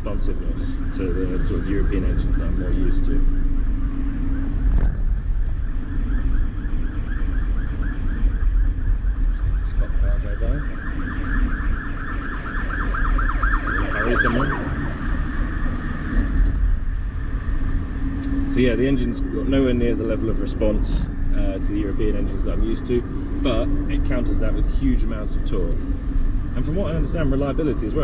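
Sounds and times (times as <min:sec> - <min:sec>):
car engine rumble: 0:00.0 - 0:28.0
road noise: 0:00.0 - 0:28.0
siren yelping: 0:00.0 - 0:28.0.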